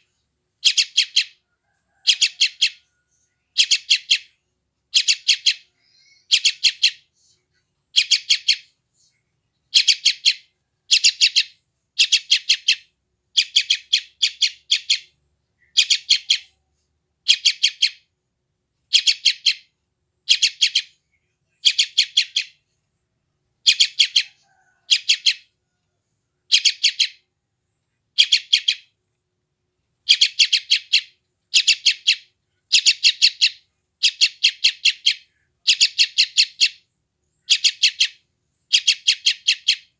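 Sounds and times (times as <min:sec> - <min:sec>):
bird chick chirping: 0:00.6 - 0:07.1, 0:07.9 - 0:08.8, 0:09.6 - 0:16.6, 0:17.2 - 0:18.1, 0:18.9 - 0:21.0, 0:21.6 - 0:22.6, 0:23.6 - 0:27.3, 0:28.1 - 0:29.0, 0:30.0 - 0:39.9.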